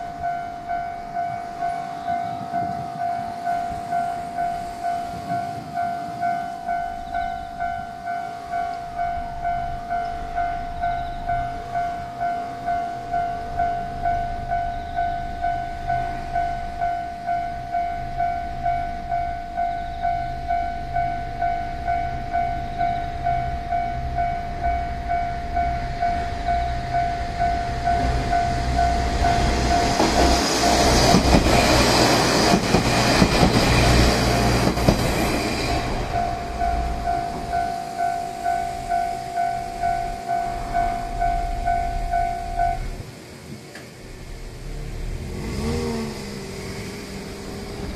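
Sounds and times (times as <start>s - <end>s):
level-crossing bell ringing: 0.0s - 32.4s, 35.6s - 43.0s
diesel train passing: 0.0s - 47.9s.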